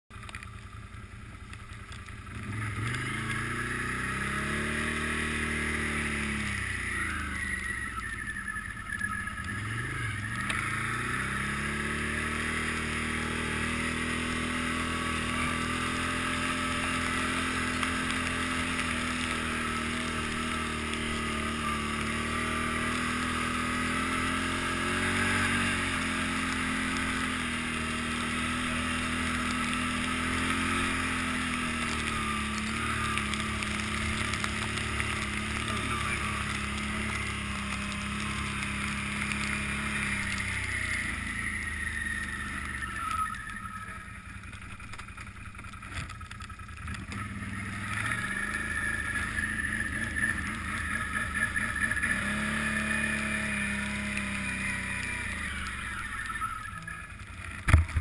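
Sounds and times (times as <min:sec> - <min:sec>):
atv engine revving: 0:00.1 - 0:58.0.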